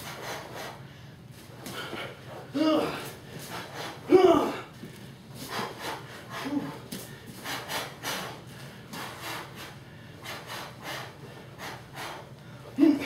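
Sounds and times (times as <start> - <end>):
person panting hard: 0.0 - 13.0.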